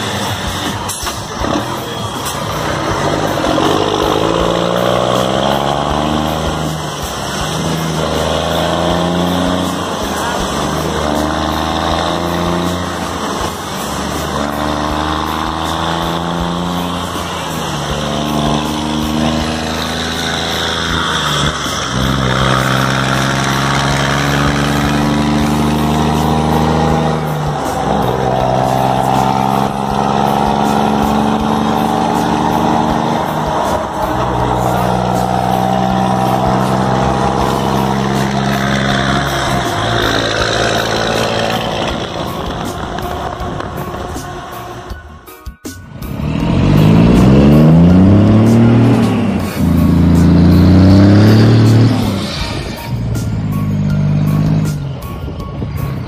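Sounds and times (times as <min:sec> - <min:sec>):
truck diesel engine accelerating: 0:00.0 - 0:56.0.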